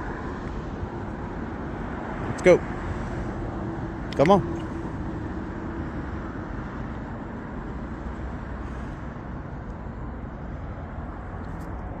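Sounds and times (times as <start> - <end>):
cars going by: 0.0 - 12.0.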